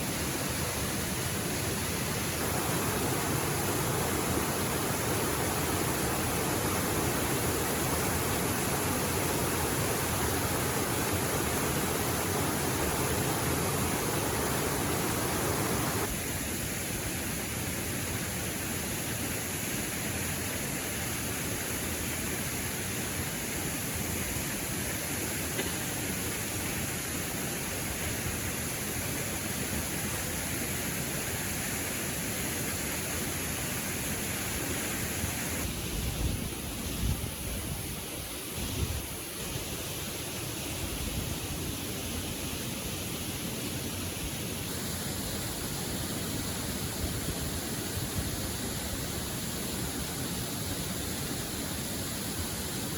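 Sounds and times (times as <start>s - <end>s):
waterfall and river rushing: 0.0s - 52.9s.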